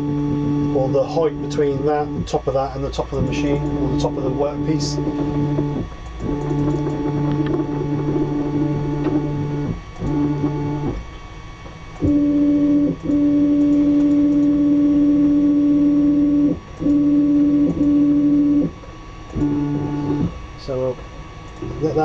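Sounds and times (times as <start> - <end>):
stepper motors whining: 0.0 - 11.1, 12.0 - 22.0.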